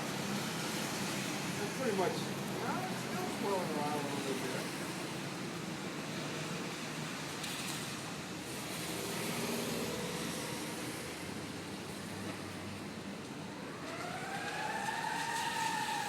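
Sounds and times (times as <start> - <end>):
road traffic rush: 0.0 - 16.0.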